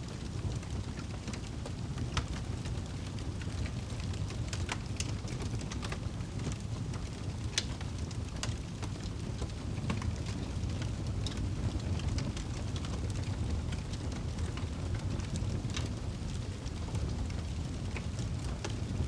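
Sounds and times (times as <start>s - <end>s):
wood fire crackling in fireplace: 0.0s - 19.0s.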